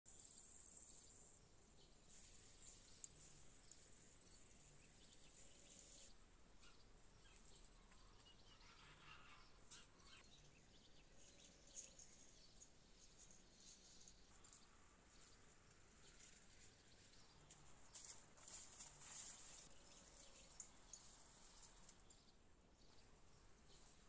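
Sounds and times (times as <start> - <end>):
faint bird chirps: 0.1 - 24.0.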